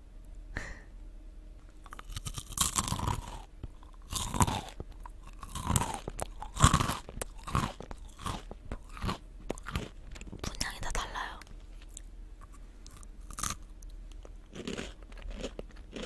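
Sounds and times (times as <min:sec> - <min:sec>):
biscuit crunching and chewing: 0:01.8 - 0:16.0.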